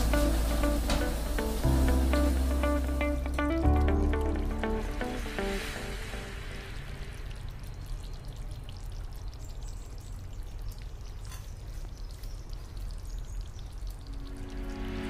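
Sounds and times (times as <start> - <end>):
curry bubbling and popping: 2.5 - 15.0.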